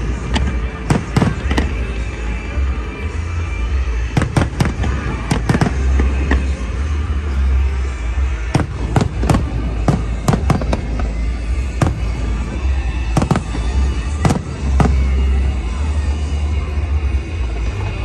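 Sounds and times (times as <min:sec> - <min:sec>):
fireworks bangs: 0:00.0 - 0:16.1
music playing: 0:00.0 - 0:18.0.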